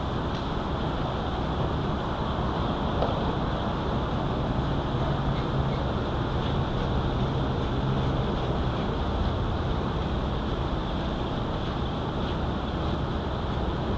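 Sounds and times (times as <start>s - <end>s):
low rumble and hiss: 0.0s - 13.9s.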